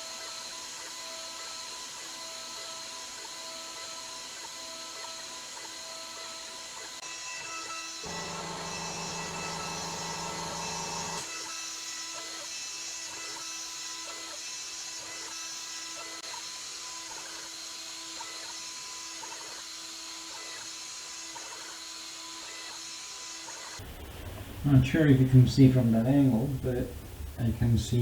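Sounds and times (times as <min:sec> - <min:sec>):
milling machine spindle whine: 0:00.0 - 0:23.8.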